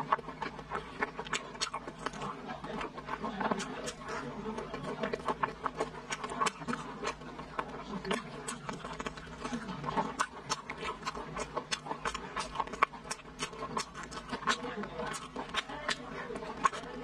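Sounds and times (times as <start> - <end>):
person chewing wetly: 0.0 - 17.0.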